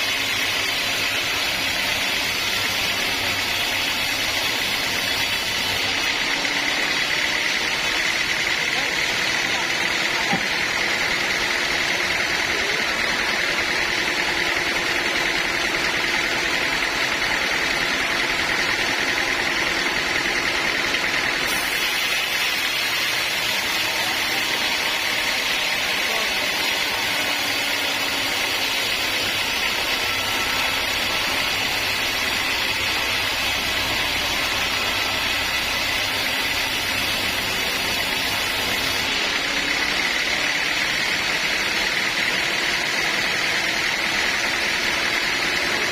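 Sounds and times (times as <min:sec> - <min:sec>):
sawmill machinery whining: 0:00.0 - 0:45.9.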